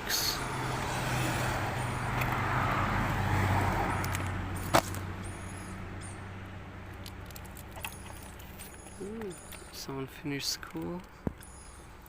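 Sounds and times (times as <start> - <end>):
vehicle engine and tyre noise: 0.0 - 12.0.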